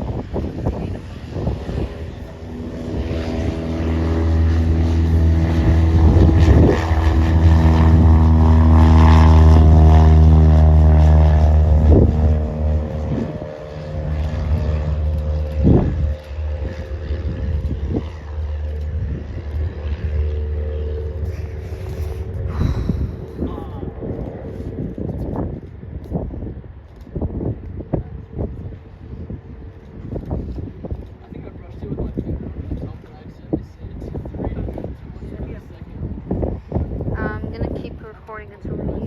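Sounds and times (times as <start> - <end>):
propeller aircraft engine drone: 0.0 - 39.0.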